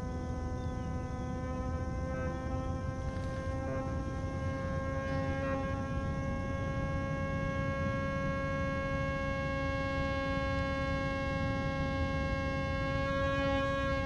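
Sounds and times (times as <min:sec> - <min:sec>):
held droning note: 0:00.0 - 0:14.0.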